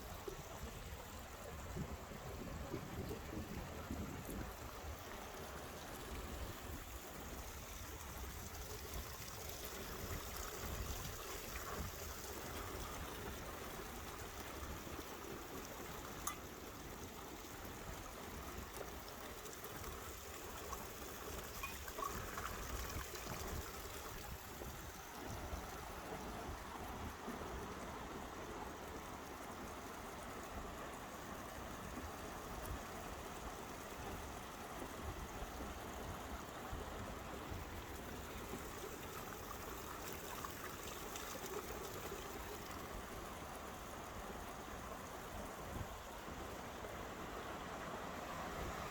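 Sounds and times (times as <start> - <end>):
stream water trickling: 0.0 - 48.9.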